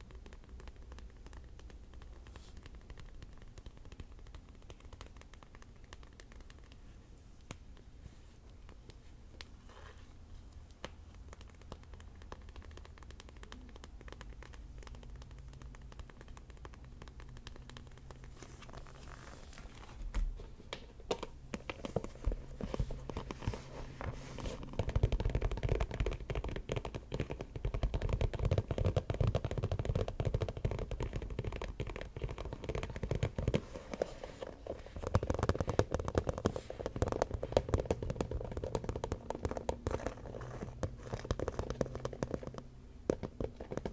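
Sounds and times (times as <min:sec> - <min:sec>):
hands tapping and scratching: 0:00.0 - 0:43.9.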